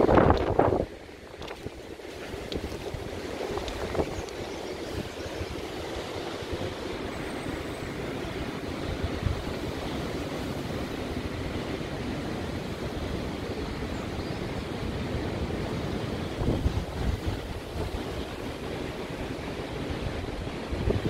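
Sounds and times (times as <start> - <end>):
sea surf: 0.0 - 21.0
wind buffeting microphone: 0.0 - 21.0.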